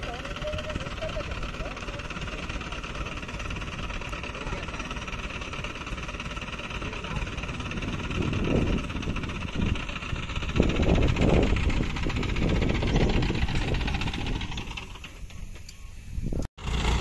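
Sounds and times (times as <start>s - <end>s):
diesel engine revving: 0.0s - 15.4s, 16.6s - 17.0s.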